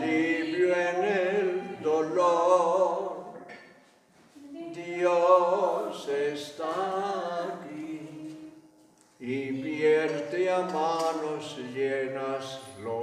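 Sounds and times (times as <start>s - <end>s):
voices singing a hymn: 0.0s - 13.0s.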